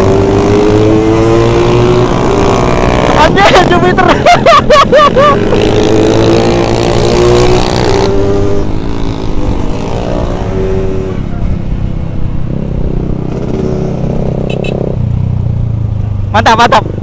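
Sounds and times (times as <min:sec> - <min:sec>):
low wind rumble: 0:00.0 - 0:16.3
motorcycle engine revving: 0:00.0 - 0:17.0.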